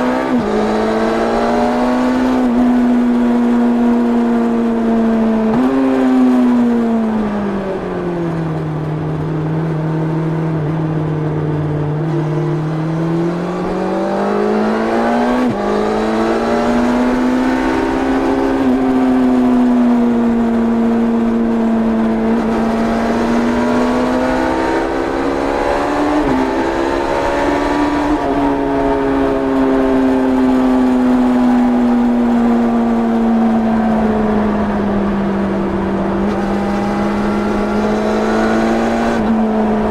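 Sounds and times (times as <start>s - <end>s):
motorcycle engine revving: 0.0s - 7.4s, 8.6s - 39.9s.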